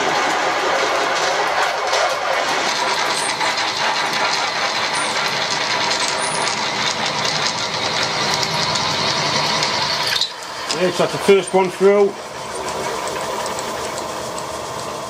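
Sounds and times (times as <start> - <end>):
milling machine drilling metal: 2.4 - 15.0.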